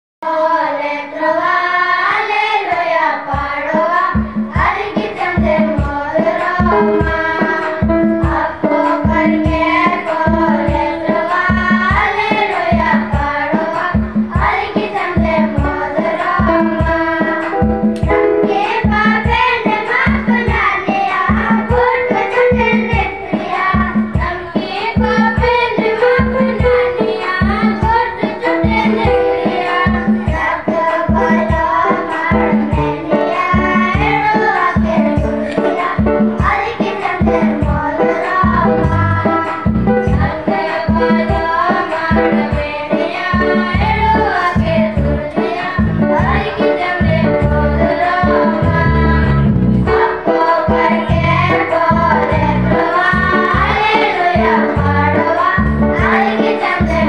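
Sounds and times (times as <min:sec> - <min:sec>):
boys singing into microphones: 0:00.2 - 0:57.0
steady drum beat: 0:03.3 - 0:57.0.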